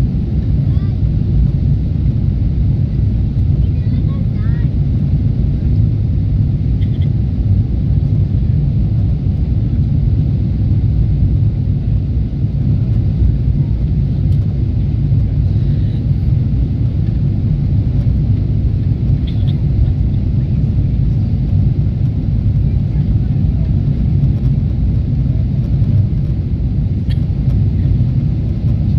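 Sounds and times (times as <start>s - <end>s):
air rushing along fuselage: 0.0s - 28.9s
jet engines at climb thrust: 0.0s - 28.9s.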